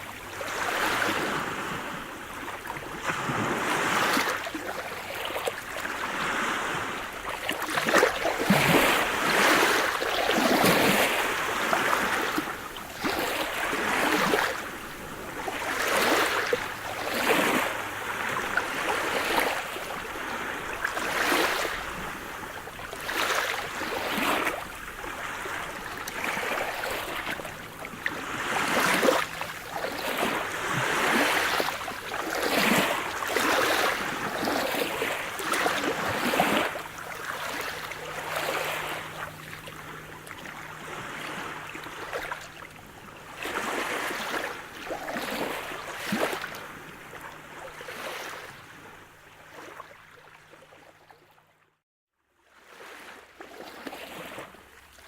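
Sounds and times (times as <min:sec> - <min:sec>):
small waves splashing: 0:00.0 - 0:51.7, 0:52.5 - 0:55.0.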